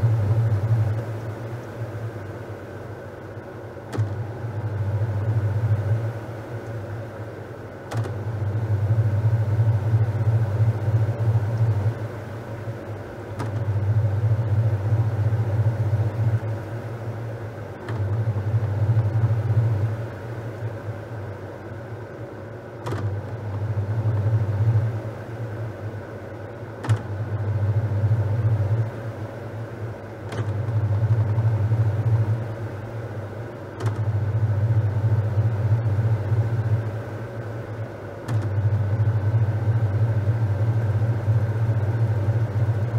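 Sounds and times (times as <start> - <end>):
washing machine motor humming: 0.0 - 42.9.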